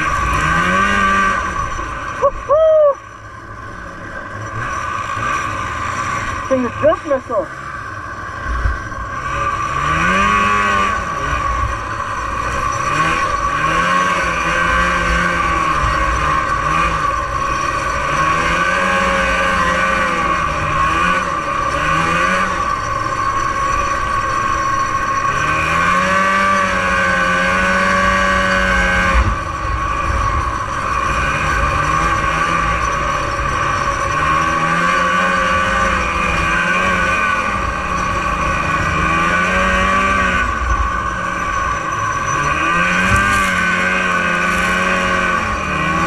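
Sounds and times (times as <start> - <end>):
snowmobile engine revving: 0.0 - 46.0
steady high whine: 0.0 - 46.0.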